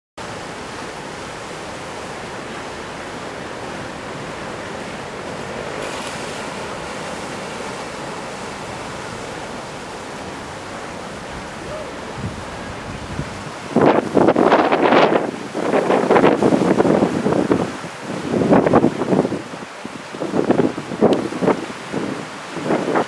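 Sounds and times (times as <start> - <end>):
surf breaking on a beach: 0.2 - 23.0
wind: 0.2 - 23.0.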